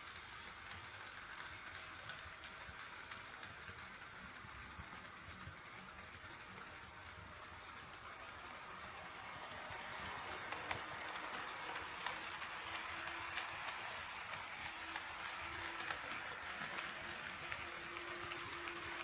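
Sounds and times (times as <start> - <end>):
model train rolling hiss: 0.0 - 19.0.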